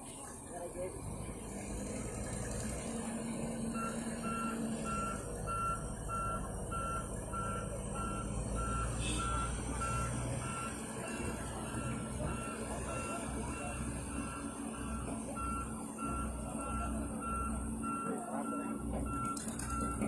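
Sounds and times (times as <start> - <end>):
diesel engine rumble: 0.0 - 20.0
excavator motion alarm beeping: 3.7 - 20.0.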